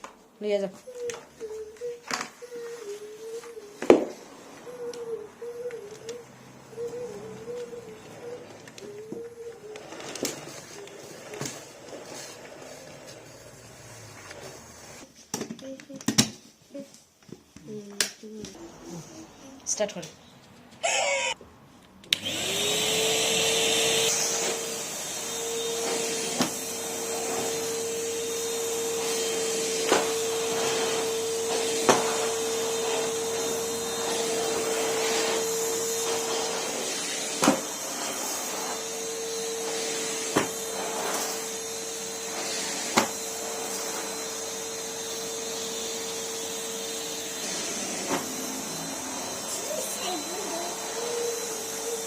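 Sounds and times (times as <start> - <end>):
vacuum cleaner motor humming: 0.9 - 15.0, 22.1 - 52.0.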